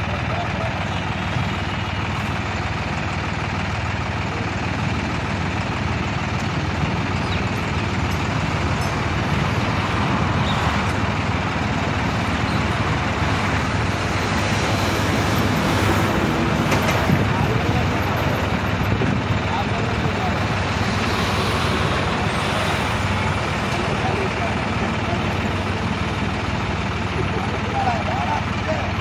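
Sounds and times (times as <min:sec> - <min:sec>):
crane engine idling: 0:00.0 - 0:29.0.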